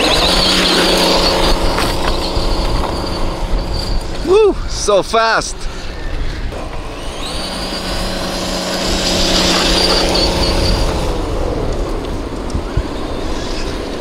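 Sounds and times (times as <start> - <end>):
rc truck electric motor whining: 0.0 - 4.3, 5.6 - 14.0.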